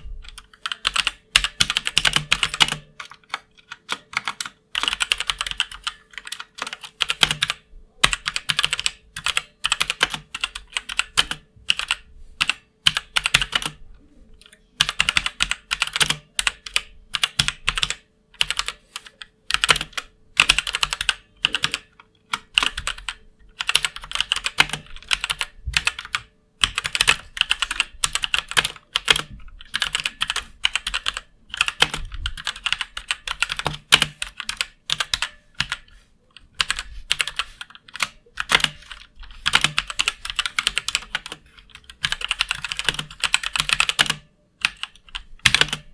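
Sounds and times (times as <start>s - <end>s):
mechanical keyboard typing: 0.0s - 13.8s, 14.4s - 45.9s.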